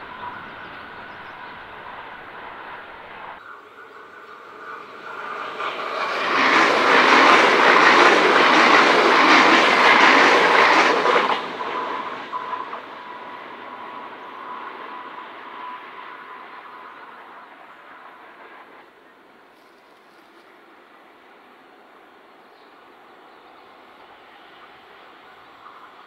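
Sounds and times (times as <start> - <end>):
train passing on track: 0.0 - 26.0.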